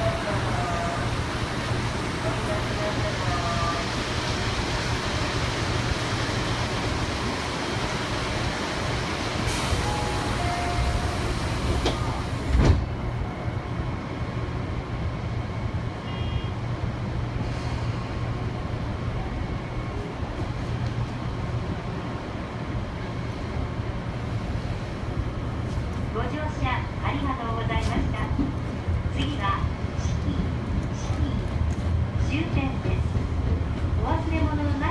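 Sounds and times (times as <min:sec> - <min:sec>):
electric train rumbling: 0:00.0 - 0:34.9.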